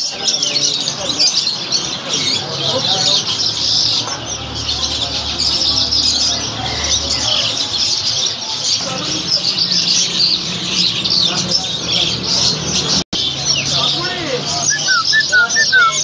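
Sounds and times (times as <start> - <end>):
many birds chirping and chattering: 0.0 - 16.0.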